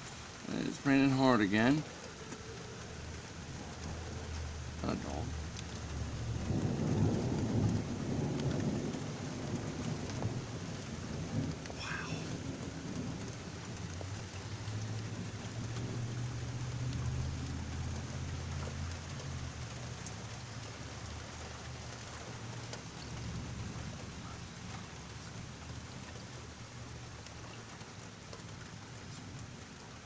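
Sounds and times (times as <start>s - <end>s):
heavy rain pouring: 0.0s - 30.0s
deep rumble of thunder: 1.6s - 27.4s.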